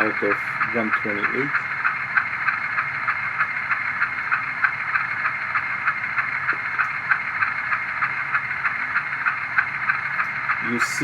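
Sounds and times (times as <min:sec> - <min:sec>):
model diesel engine chugging: 0:00.0 - 0:11.0.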